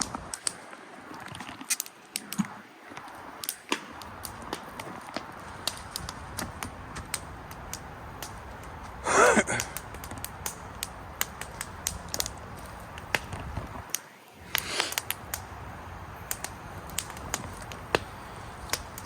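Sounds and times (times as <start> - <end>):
fire crackling and popping: 0.0 - 19.0
low steady hiss: 0.0 - 19.0.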